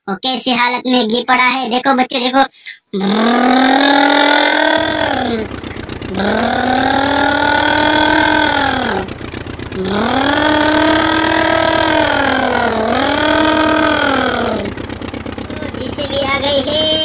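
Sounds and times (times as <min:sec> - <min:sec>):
man imitating truck engine: 0:02.9 - 0:17.0.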